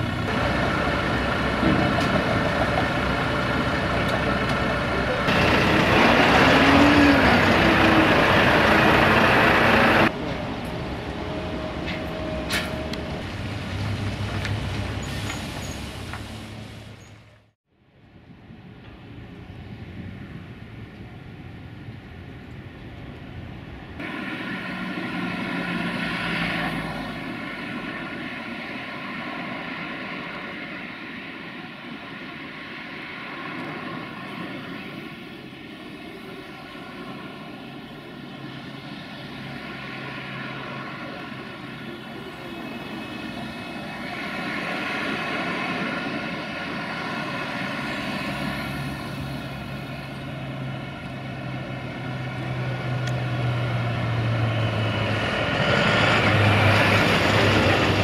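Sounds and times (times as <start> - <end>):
truck diesel engine drone: 0.0 - 17.5, 23.6 - 58.0
quieter vehicle noise: 0.0 - 58.0.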